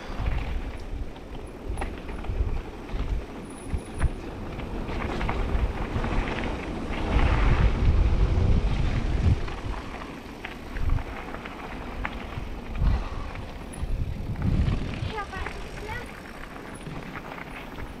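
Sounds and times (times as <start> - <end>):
bike rattling over bumps: 0.0 - 18.0
bike rolling over rough trail: 0.0 - 18.0
wind buffeting microphone: 0.0 - 18.0.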